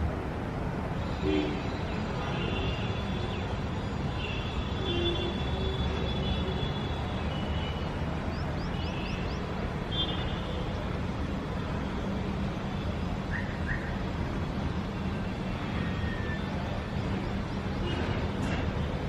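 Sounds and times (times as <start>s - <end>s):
distant city traffic rumble: 0.0s - 19.0s.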